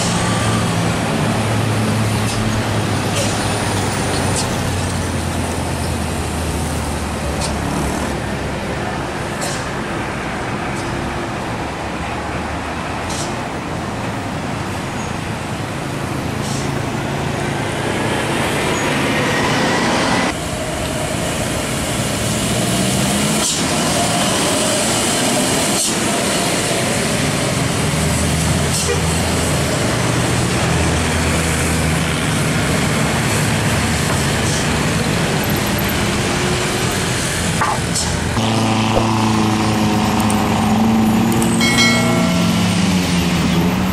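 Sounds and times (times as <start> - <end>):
diesel trucks straining uphill: 0.0 - 43.9
road and traffic noise: 0.0 - 43.9.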